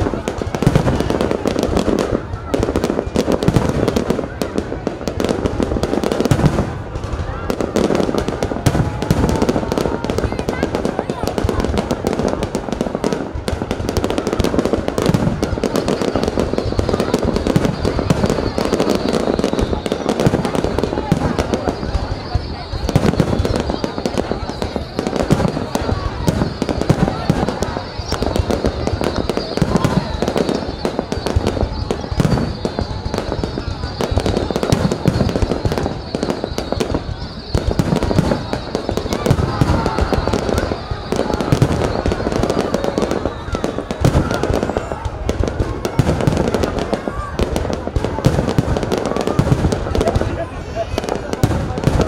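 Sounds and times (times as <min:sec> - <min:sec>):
fireworks crackling: 0:00.0 - 0:52.0.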